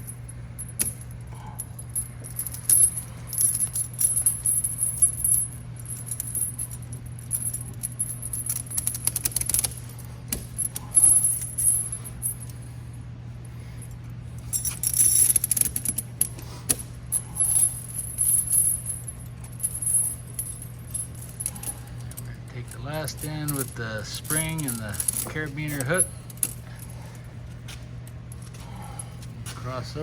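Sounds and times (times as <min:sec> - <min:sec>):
chain links clinking and rattling: 0:00.0 - 0:12.8, 0:13.4 - 0:30.0
steady low hum: 0:00.0 - 0:30.0.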